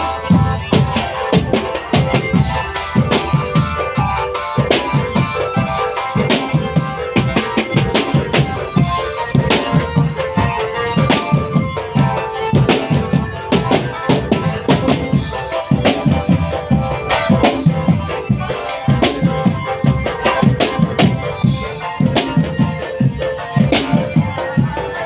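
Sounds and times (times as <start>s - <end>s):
marching band tune: 0.0s - 25.0s
marching snare and bass drums: 0.0s - 25.0s.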